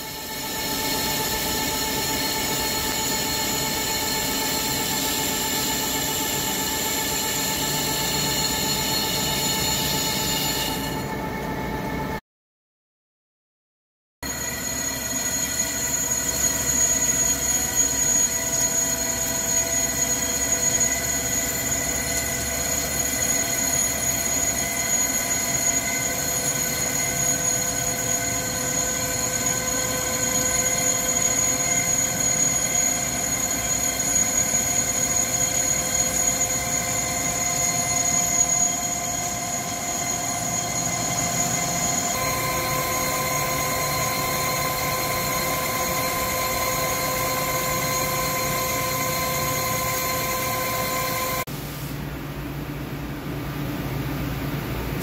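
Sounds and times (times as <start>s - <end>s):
metal cutting noise: 0.0s - 11.2s, 14.4s - 51.5s
lathe machine whine: 0.0s - 12.2s, 14.2s - 51.5s.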